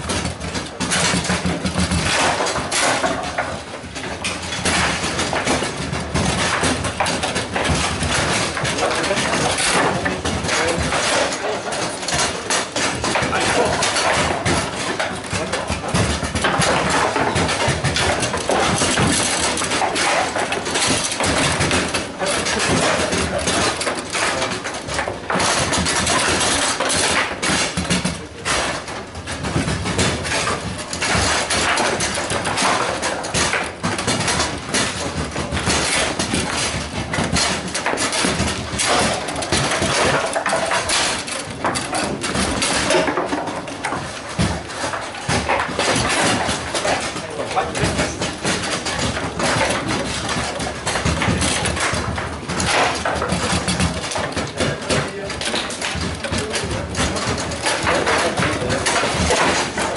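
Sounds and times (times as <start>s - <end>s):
other tables clattering: 0.0s - 59.9s
rods knocking and sliding: 0.0s - 59.9s
table football ball clattering: 0.0s - 59.9s.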